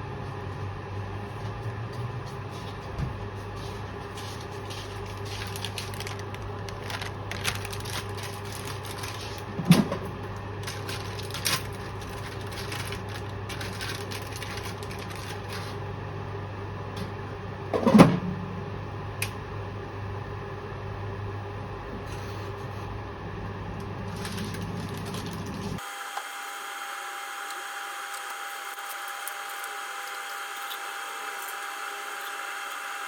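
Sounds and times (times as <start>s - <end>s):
appliance hum: 0.0s - 33.0s.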